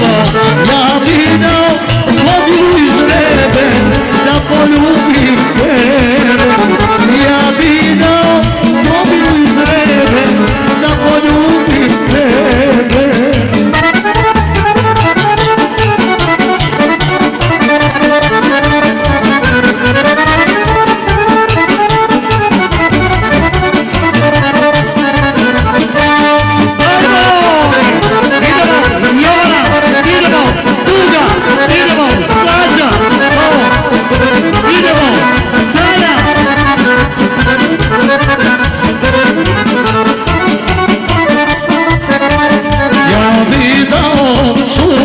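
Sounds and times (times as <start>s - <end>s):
accordion melody: 0.0s - 45.0s
folk dance music: 0.0s - 45.0s.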